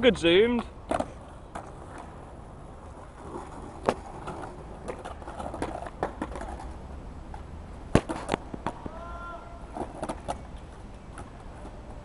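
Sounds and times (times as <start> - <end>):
skateboard knocking on asphalt: 0.6 - 12.0.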